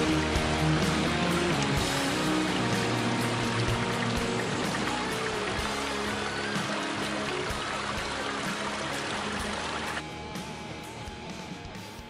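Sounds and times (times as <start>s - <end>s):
creek trickling over rocks: 0.0s - 10.0s.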